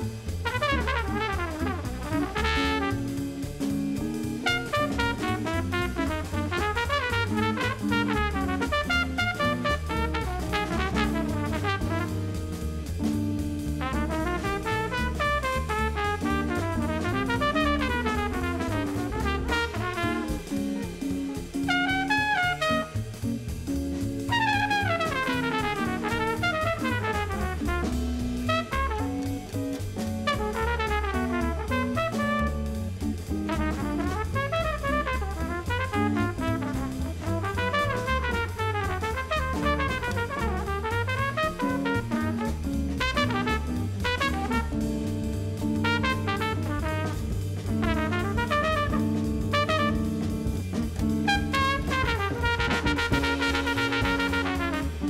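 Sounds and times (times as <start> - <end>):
trumpet solo: 0.0 - 23.4, 24.0 - 55.0
double bass: 0.0 - 55.0
drum kit with cymbals: 0.0 - 55.0
jazz guitar: 0.0 - 55.0.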